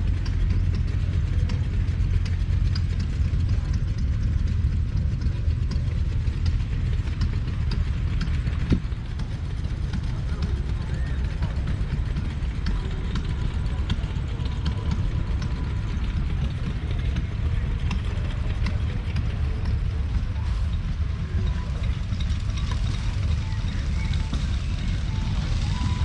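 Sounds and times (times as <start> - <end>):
tractor diesel engine rumbling: 0.0 - 26.0.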